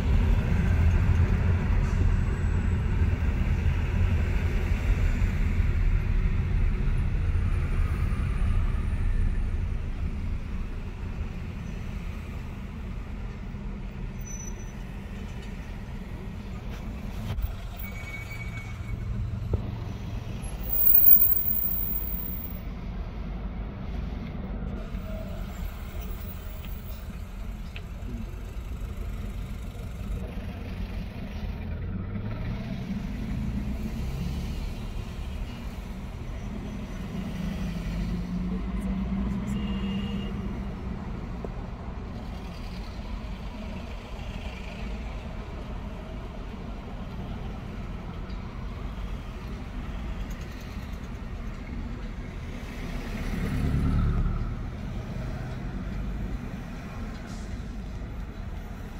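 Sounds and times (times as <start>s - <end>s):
traffic engines rumbling: 0.0s - 58.9s.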